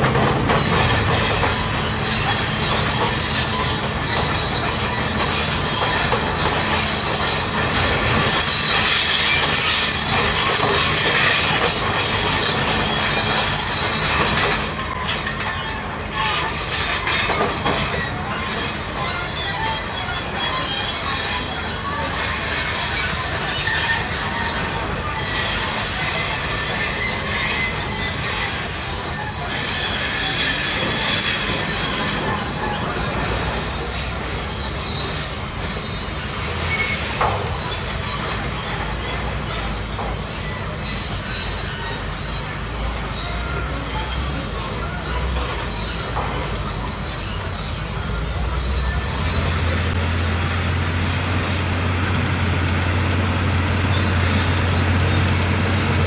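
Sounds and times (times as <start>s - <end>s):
excavator diesel engine running: 0.0s - 56.0s
high-pitched squeal: 0.0s - 56.0s.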